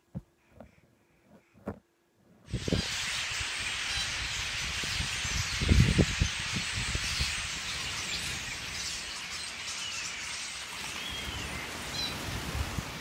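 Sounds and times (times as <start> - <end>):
flock of birds calling: 2.5 - 13.0.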